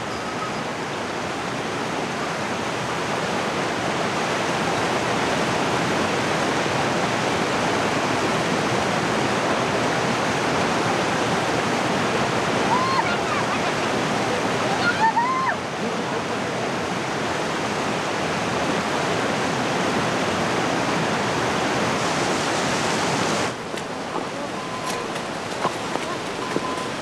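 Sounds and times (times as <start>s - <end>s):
rushing mountain stream: 0.0s - 27.0s.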